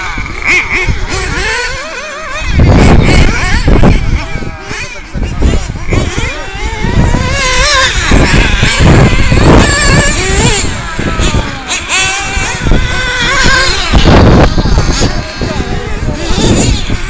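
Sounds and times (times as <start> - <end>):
rc buggy engines whining: 0.0 - 17.0.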